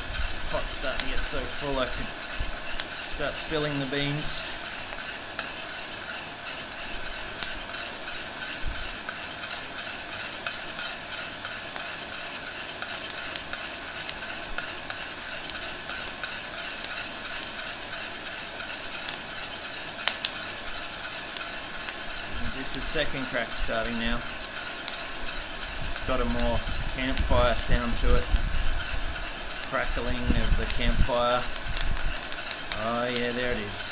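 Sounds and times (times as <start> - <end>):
heat gun blowing: 0.0 - 33.9
spoon scraping coffee beans: 0.0 - 33.9.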